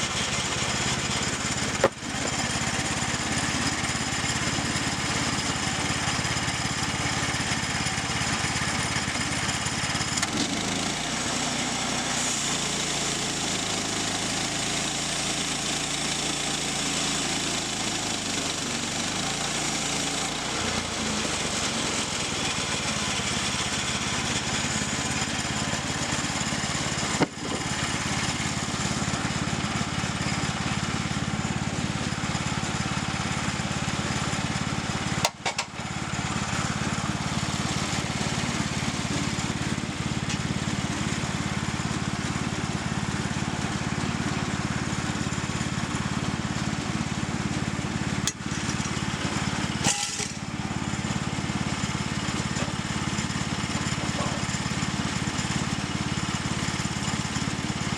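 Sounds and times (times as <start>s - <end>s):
saw cutting logs: 0.0s - 57.9s
small gasoline engine running: 0.0s - 57.9s.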